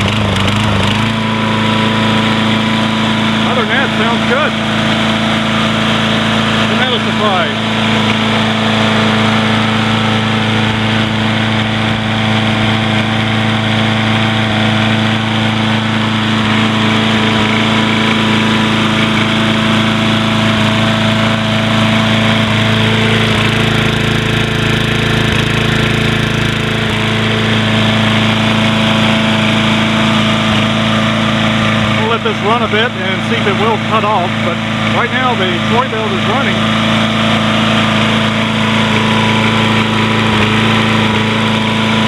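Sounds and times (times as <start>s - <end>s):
lawn mower engine running rough: 0.0s - 42.0s.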